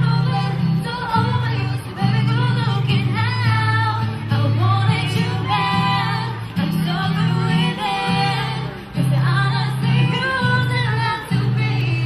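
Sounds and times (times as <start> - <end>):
acoustic guitar: 0.0 - 12.0
woman singing into microphone: 0.0 - 12.0.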